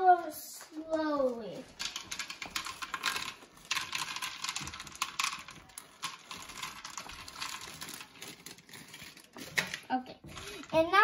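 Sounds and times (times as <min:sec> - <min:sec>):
plastic bag crinkling: 0:00.6 - 0:11.0.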